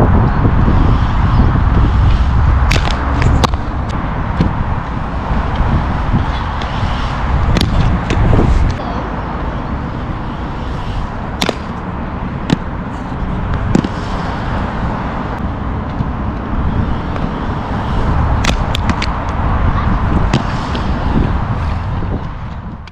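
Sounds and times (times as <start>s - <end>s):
inline skate wheels rolling on concrete: 0.0s - 22.9s.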